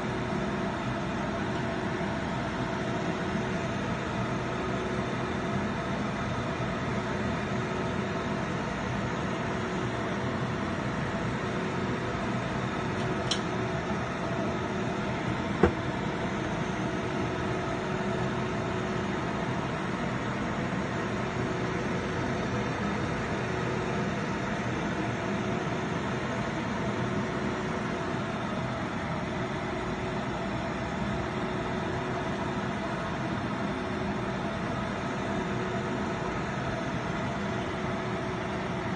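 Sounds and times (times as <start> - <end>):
machine hum with hiss: 0.0 - 38.9.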